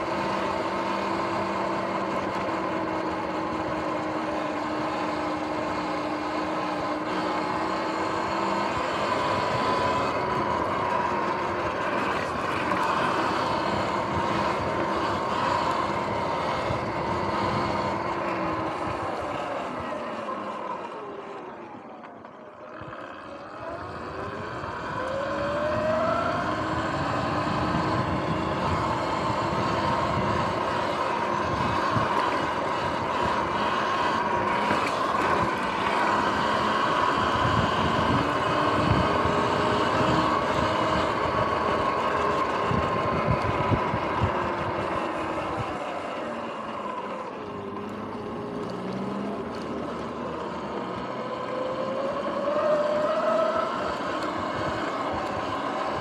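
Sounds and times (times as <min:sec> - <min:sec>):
electric motorbike motor whining: 0:00.0 - 0:56.0
wind: 0:00.0 - 0:56.0.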